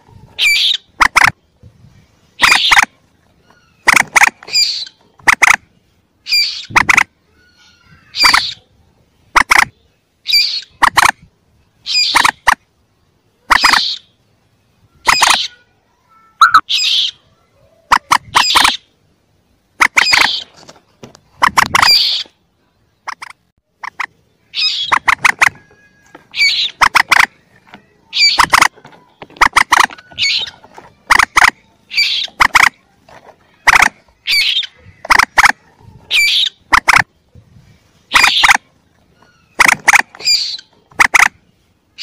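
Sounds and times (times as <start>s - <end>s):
moorhen calls: 0.0s - 1.6s, 2.2s - 11.2s, 11.8s - 12.6s, 13.4s - 14.2s, 14.8s - 15.7s, 16.3s - 19.0s, 19.8s - 20.6s, 21.4s - 22.4s, 23.0s - 37.2s, 38.0s - 42.0s.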